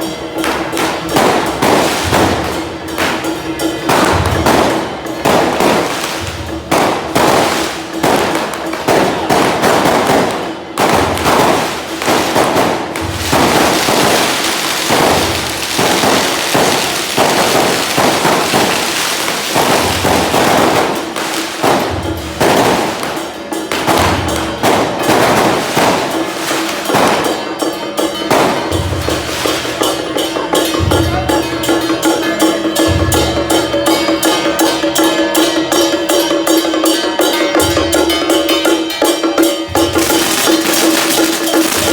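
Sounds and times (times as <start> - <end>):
firecrackers crackling: 0.0 - 41.9
procession drum beats: 0.0 - 41.9.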